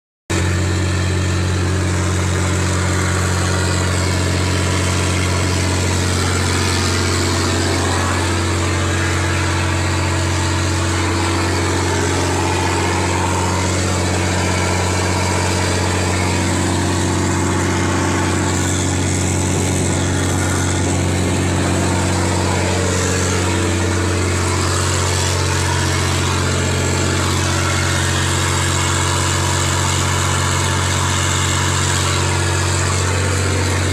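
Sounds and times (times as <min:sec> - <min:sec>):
boat engine running: 0:00.3 - 0:33.9.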